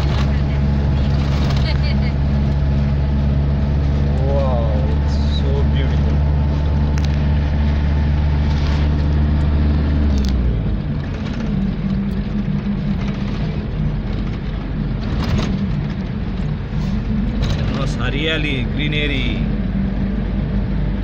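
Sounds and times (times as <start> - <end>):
road noise: 0.0 - 21.0
vehicle engine hum: 0.0 - 21.0.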